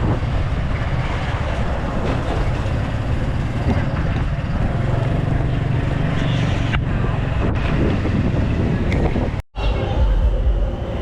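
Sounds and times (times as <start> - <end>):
motorbike running: 0.0 - 9.4
wind buffeting microphone: 0.0 - 9.4.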